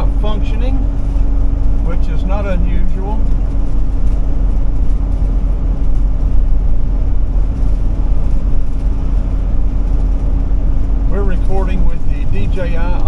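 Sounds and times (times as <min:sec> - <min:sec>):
engine and road noise in cab: 0:00.0 - 0:13.0.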